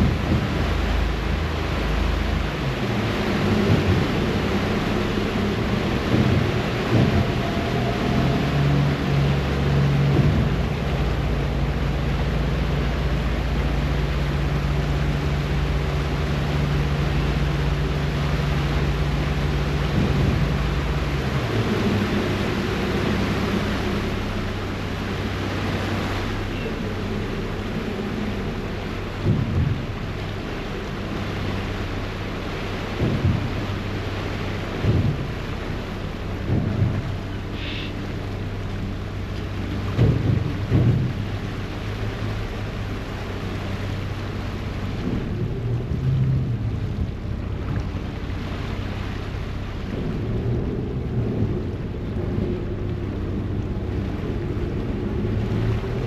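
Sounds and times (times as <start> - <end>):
churning wake water: 0.0 - 56.0
ferry engine droning: 0.0 - 56.0
low thumps: 0.0 - 56.0
wind: 0.0 - 56.0.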